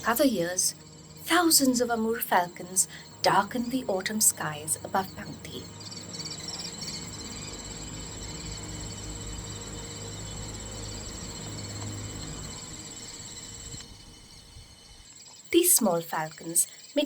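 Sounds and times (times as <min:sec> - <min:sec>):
insects trilling: 0:00.0 - 0:17.0
low steady hum: 0:00.0 - 0:17.0.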